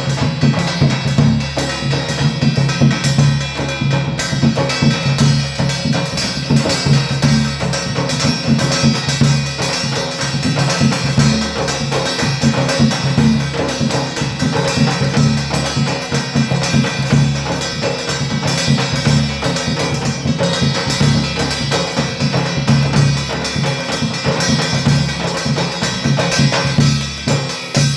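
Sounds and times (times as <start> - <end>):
barrel drum strokes: 0.0 - 27.9.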